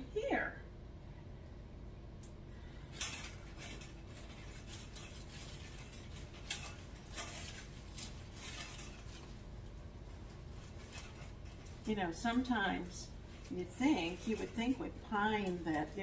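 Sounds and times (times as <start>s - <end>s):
rustling and crinkling decorations: 2.6s - 16.0s.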